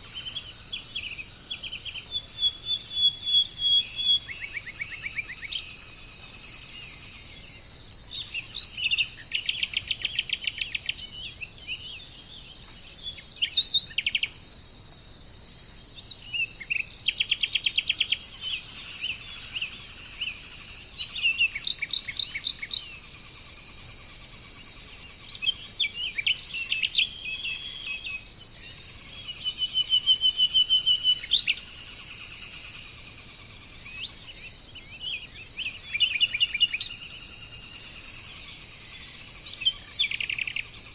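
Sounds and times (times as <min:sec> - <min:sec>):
birds trilling and chirping: 0:00.0 - 0:14.5, 0:16.0 - 0:40.9
insects droning: 0:00.0 - 0:40.9.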